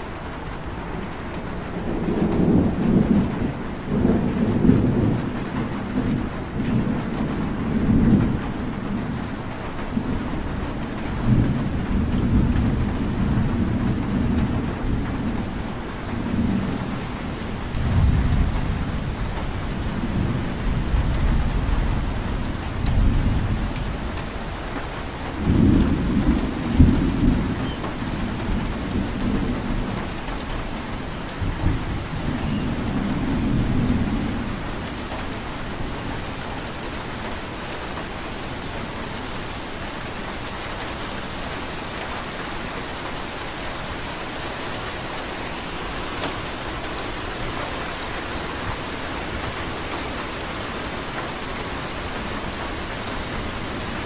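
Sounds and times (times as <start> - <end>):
rain hissing: 0.0 - 54.0.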